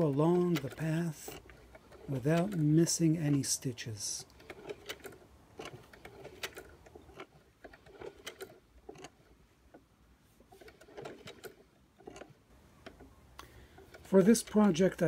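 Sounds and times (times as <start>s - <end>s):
sewing machine clatter: 0.0s - 9.8s, 10.5s - 13.1s, 13.8s - 15.0s
sewing machine clicking: 0.0s - 15.0s.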